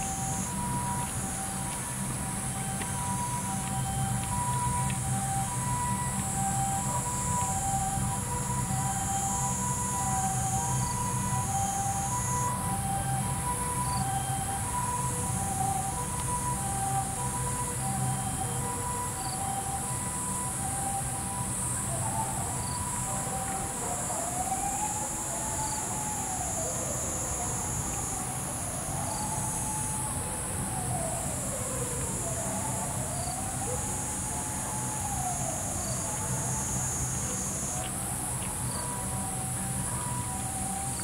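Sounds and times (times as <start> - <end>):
hi-lo siren: 0.0 - 41.0
rising and falling siren: 0.0 - 41.0.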